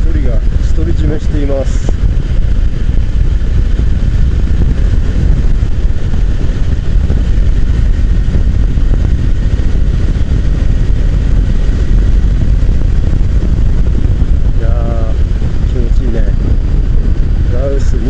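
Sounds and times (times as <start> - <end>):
motorcycle engine running: 0.0 - 18.0
wind rushing: 0.0 - 18.0.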